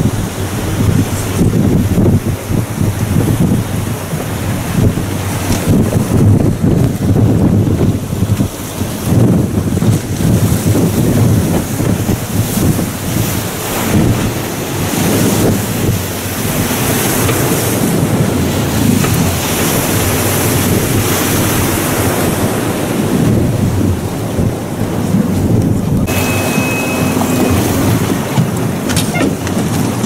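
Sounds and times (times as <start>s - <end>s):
water slapping against hull: 0.0s - 30.0s
wind buffeting microphone: 0.0s - 30.0s.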